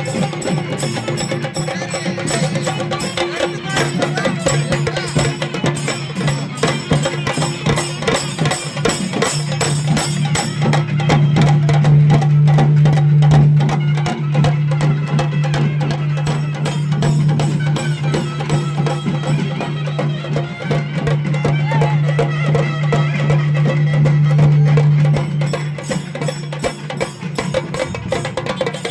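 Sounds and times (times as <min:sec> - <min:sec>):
drums beaten fast: 0:00.0 - 0:28.9.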